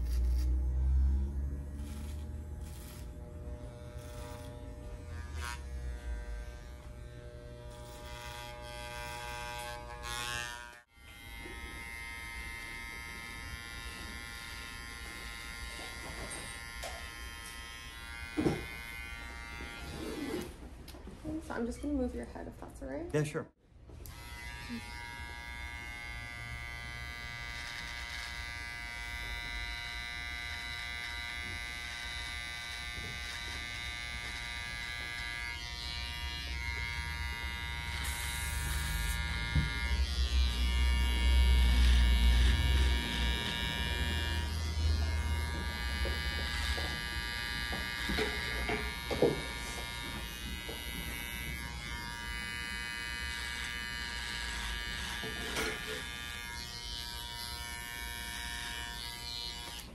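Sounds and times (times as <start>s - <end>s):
electric hair trimmers buzzing: 0.0s - 20.7s, 23.9s - 59.9s.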